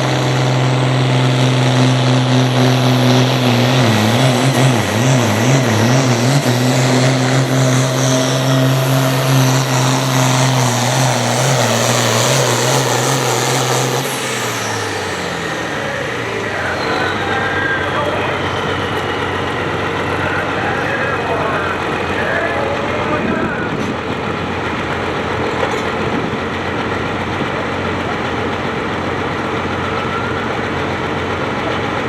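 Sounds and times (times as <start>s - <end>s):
engine winding down with whine: 0.0s - 32.0s
tractor diesel engine under load: 0.0s - 32.0s.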